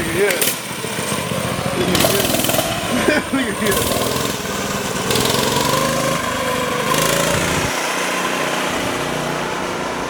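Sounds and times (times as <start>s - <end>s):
mini bike engine running: 0.0s - 10.0s.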